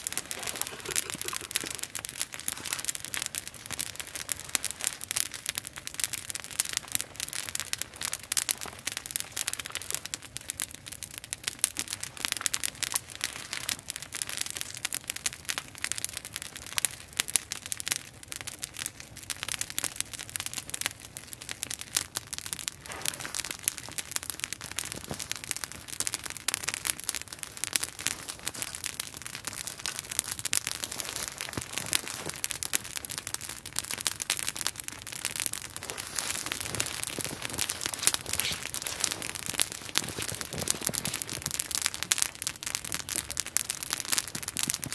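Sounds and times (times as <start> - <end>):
campfire crackling: 0.0 - 44.9
fire pops: 0.0 - 44.9.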